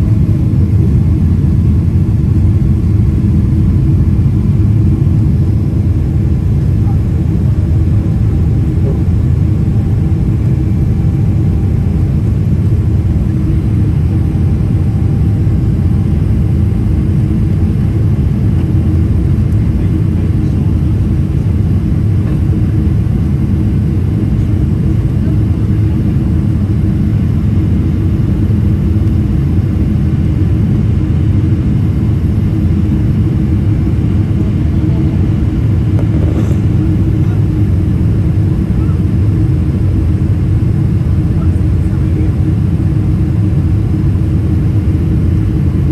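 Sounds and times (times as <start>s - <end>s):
airplane cabin engine drone: 0.0s - 45.9s.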